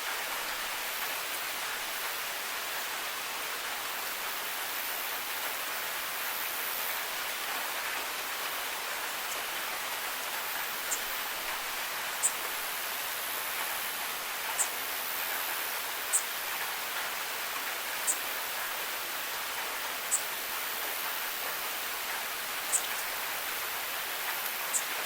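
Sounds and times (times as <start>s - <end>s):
steady rain hissing: 0.0s - 25.0s.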